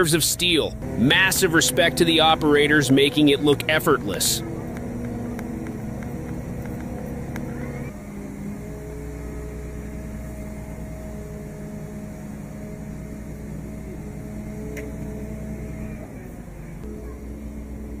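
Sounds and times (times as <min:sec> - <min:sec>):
heavy truck engine humming: 0:00.0 - 0:18.0.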